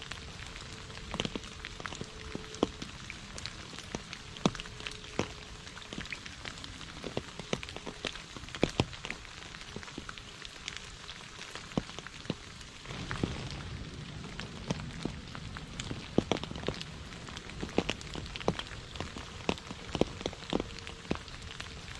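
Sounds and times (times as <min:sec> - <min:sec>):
raindrops plinking in puddle: 0:00.0 - 0:21.9
steady hiss of rain: 0:00.0 - 0:21.9.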